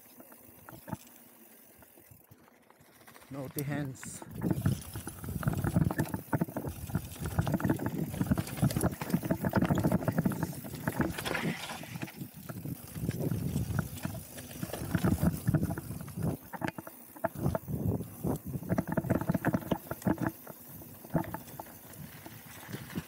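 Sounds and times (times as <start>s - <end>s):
bike rattling over bumps: 0.0s - 23.0s
tyres on dirt and gravel: 0.0s - 23.0s.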